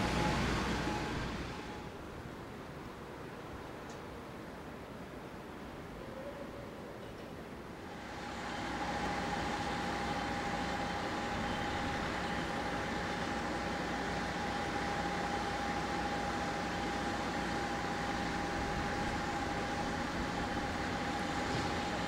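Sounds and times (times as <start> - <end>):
locomotive engine and rail noise: 0.0 - 22.0.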